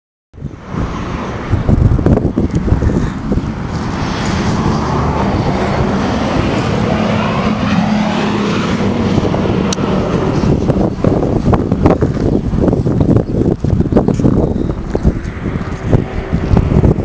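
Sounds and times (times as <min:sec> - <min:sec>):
car engine humming: 0:01.1 - 0:16.9.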